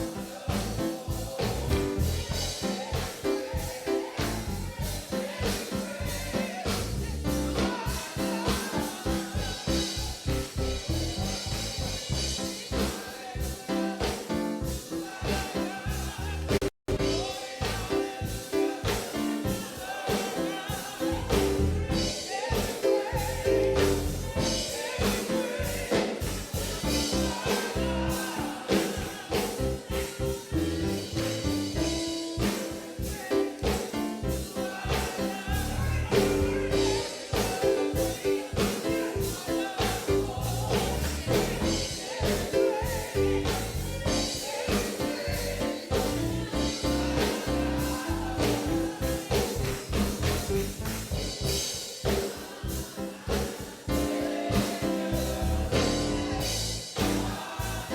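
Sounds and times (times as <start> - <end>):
band instruments playing: 0.0 - 57.9
drum kit beat: 0.0 - 57.9
people singing gospel: 0.0 - 57.9.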